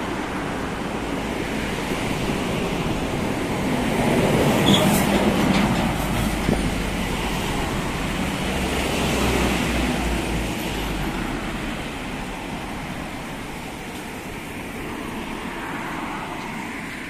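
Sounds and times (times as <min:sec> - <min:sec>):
trucks passing with engine rumble: 0:00.0 - 0:17.0.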